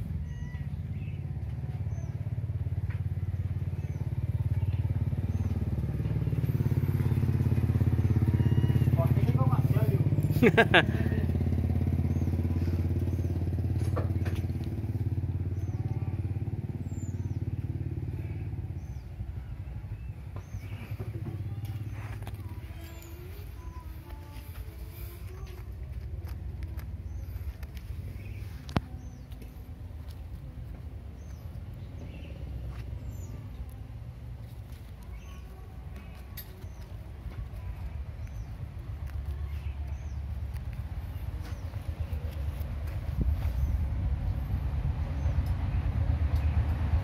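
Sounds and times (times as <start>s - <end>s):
engine idling: 0.0s - 47.0s
low steady rumble: 0.0s - 47.0s.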